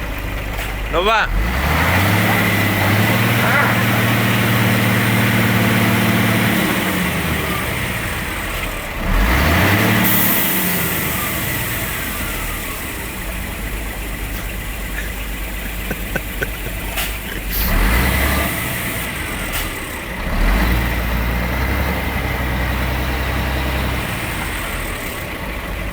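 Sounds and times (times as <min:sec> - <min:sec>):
diesel truck engine revving: 0:00.0 - 0:25.9.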